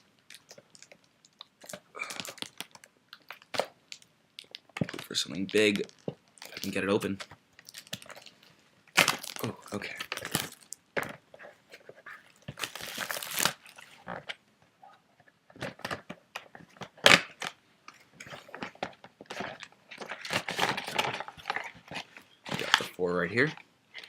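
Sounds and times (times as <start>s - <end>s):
card packs rustling and crackling: 0.3s - 14.4s, 15.6s - 24.0s.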